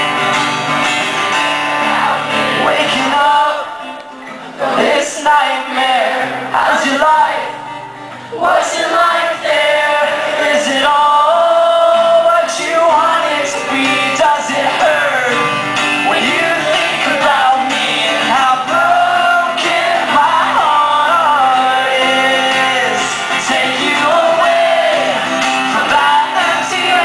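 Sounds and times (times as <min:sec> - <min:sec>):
strummed acoustic guitar: 0:00.0 - 0:27.0
man singing: 0:01.7 - 0:04.0, 0:04.7 - 0:07.6, 0:08.4 - 0:27.0.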